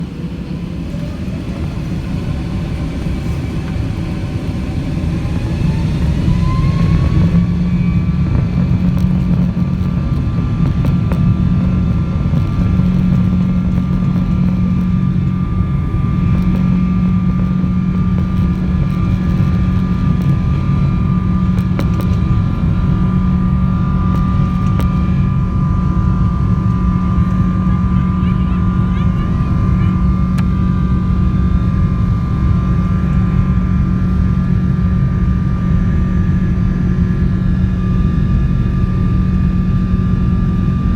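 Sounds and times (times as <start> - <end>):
jet engines whine spooling up: 0.0 - 40.9
loud even rumble: 0.0 - 40.9.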